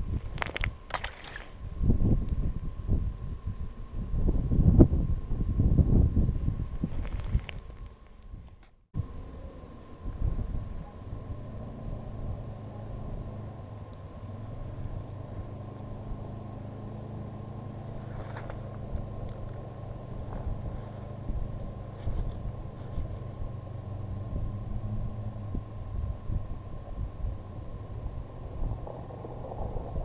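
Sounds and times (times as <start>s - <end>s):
low engine hum: 0.0s - 30.0s
wind rumble on microphone: 0.0s - 30.0s.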